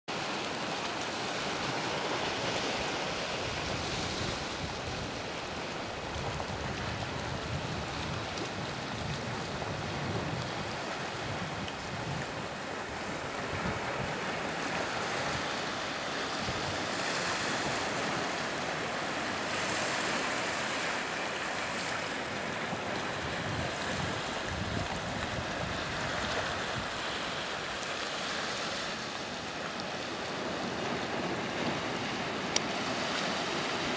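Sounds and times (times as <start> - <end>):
waves lapping among rocks: 0.1 - 33.9
wind gusting on microphone: 1.3 - 33.9.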